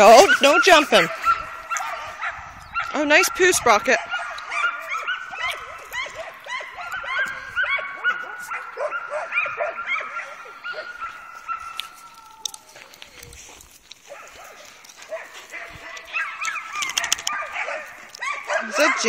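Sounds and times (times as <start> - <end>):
dogs yipping and whining: 0.0 - 19.0.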